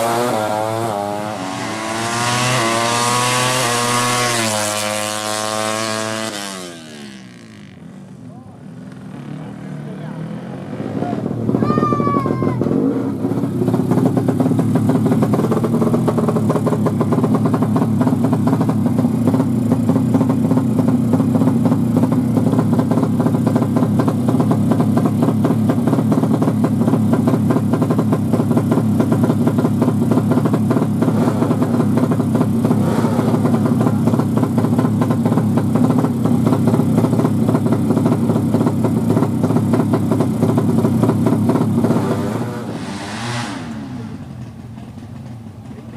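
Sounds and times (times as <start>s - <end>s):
motorcycle engine running loud: 0.0s - 45.9s.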